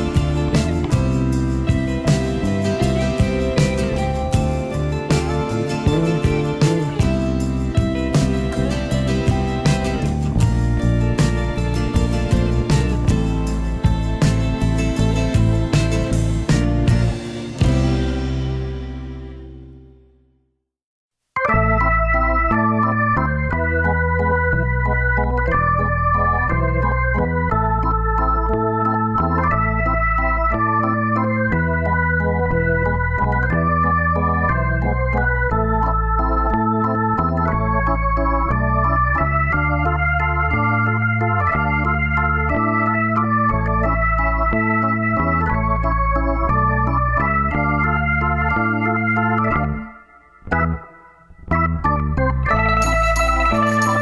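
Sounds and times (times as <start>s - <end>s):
organ-style keyboard tune with bass: 0.0s - 20.2s, 21.4s - 54.0s.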